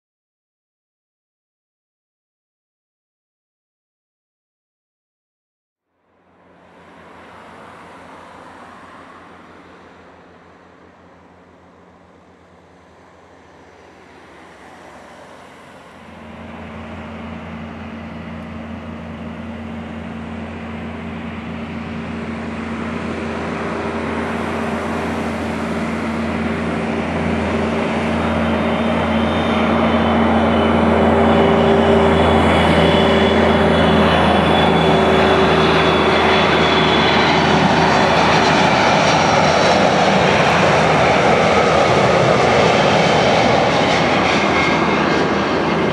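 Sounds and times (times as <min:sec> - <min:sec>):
high engine whine: 0:05.9 - 0:45.9
deep engine hum: 0:06.0 - 0:45.9
airliner jet engines roaring: 0:06.1 - 0:45.9.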